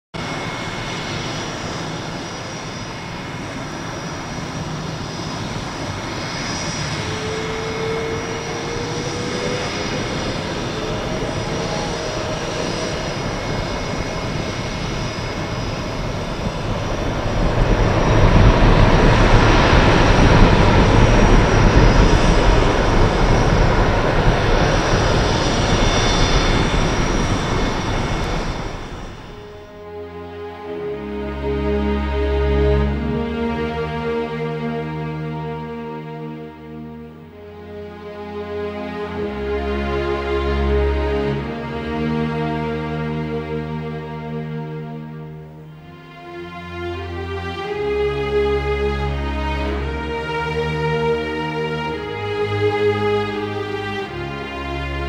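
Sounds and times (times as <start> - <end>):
jet engines whining: 0.2 - 55.0.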